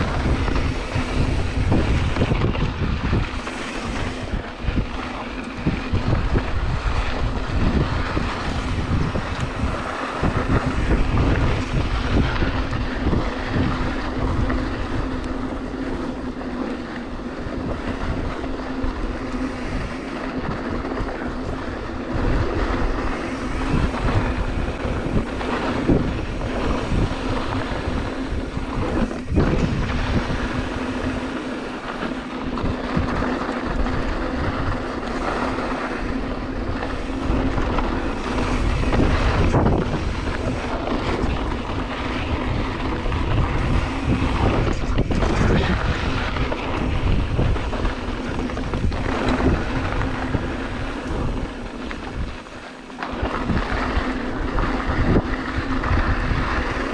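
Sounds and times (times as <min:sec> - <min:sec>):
bike knocks and rattles: 0:00.0 - 0:56.9
bike tyres rushing on dirt: 0:00.0 - 0:56.9
wind buffeting microphone: 0:00.0 - 0:56.9.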